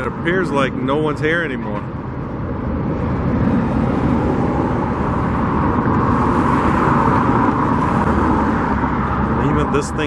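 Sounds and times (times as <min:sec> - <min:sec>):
steady vehicle noise: 0:00.0 - 0:10.0.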